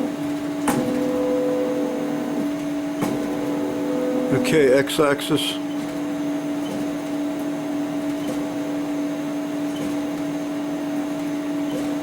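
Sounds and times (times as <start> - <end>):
stepper motor whine: 0.0 - 9.6.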